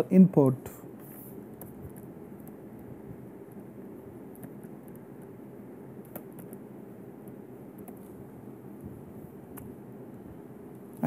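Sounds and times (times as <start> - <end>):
room hiss: 0.0 - 11.0.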